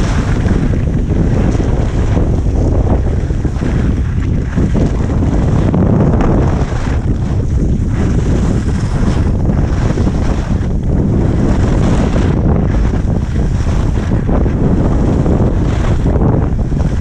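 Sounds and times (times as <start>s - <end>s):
skis scraping snow: 0.0s - 17.0s
wind rushing over microphone: 0.0s - 17.0s.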